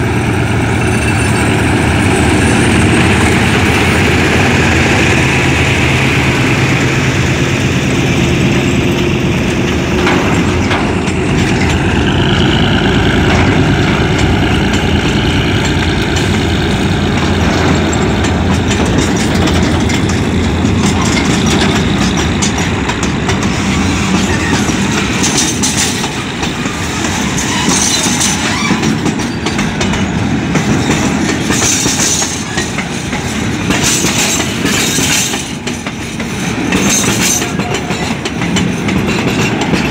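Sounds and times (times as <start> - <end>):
diesel locomotive engine hum: 0.0 - 39.9
heavy steel wheel rumble: 0.0 - 39.9
wheels clacking over rail joints: 0.0 - 39.9.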